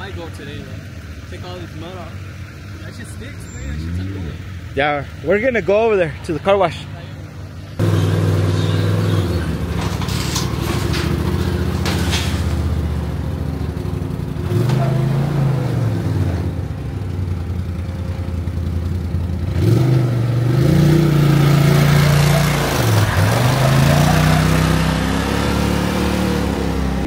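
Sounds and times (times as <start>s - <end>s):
utility vehicle engine revving: 0.0s - 27.0s.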